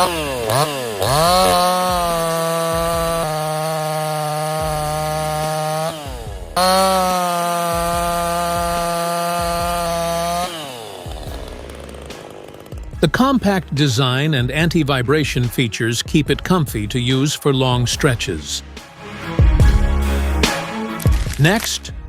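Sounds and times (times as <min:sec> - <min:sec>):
chainsaw engine revving: 0:00.0 - 0:21.9.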